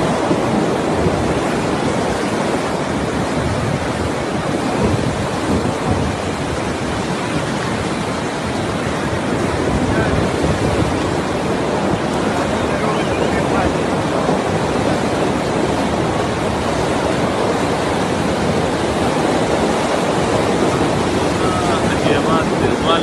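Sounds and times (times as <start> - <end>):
river rushing: 0.0 - 23.0
wind buffeting microphone: 0.0 - 23.0.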